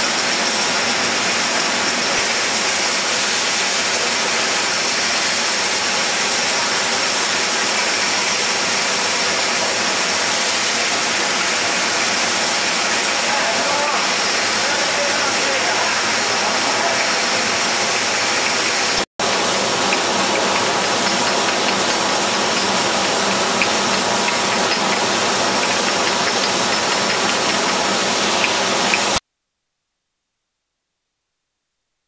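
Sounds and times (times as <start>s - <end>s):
bottling line conveyors running: 0.0s - 29.2s.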